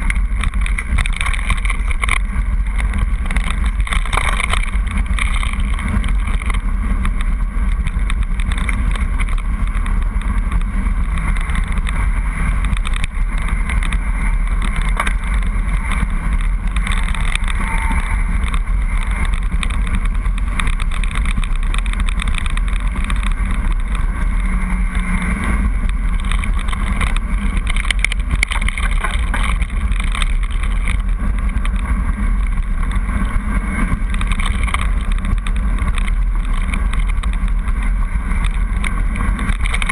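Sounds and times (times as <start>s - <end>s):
bike rattling: 0.0s - 39.9s
tyres on loose stones: 0.0s - 39.9s
wind rumble on microphone: 0.0s - 39.9s.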